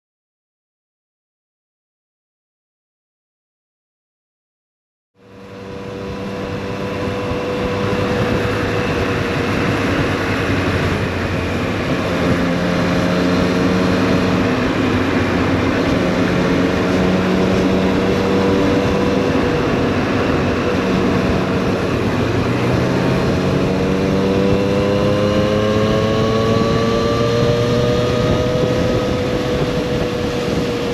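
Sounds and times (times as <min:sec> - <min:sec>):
motorcycle engine running: 0:05.2 - 0:30.9
wind noise: 0:05.7 - 0:30.9.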